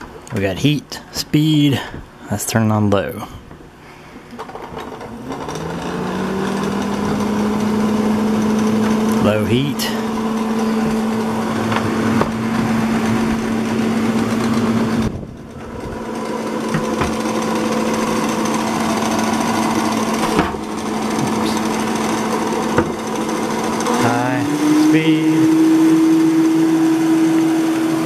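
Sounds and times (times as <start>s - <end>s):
hair dryer fan humming: 4.2s - 28.0s.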